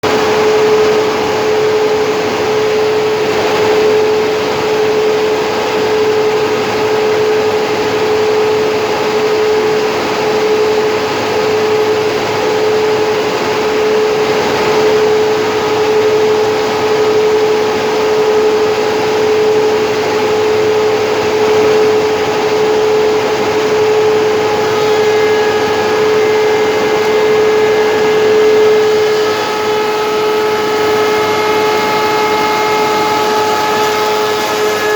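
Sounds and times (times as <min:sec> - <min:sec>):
higher machine tones: 0:00.0 - 0:34.9
machine whining: 0:00.0 - 0:34.9.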